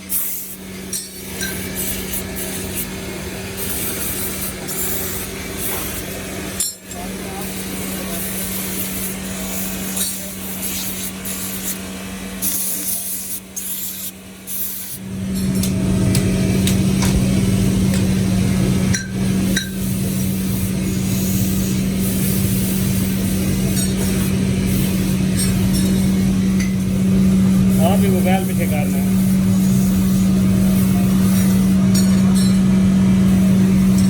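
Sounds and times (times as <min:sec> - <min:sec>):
machinery humming: 0:00.0 - 0:34.0.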